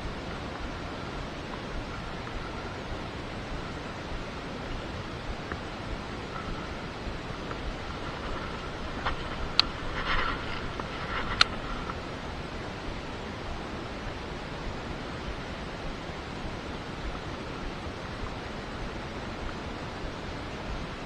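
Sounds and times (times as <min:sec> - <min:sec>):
rushing hiss of outdoor noise: 0:00.0 - 0:21.0.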